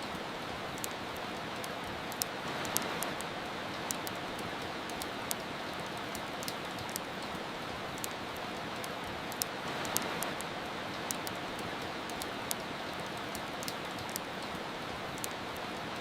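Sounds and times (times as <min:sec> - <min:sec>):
fireplace fire crackling: 0:00.0 - 0:16.0
soft rain hiss: 0:00.0 - 0:16.0.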